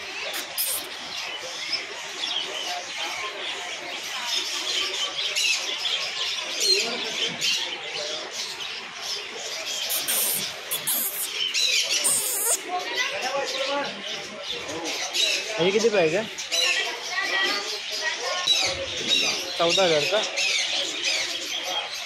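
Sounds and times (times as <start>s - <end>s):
murmur of voices: 0.0s - 22.0s
small birds chirping: 0.0s - 22.0s.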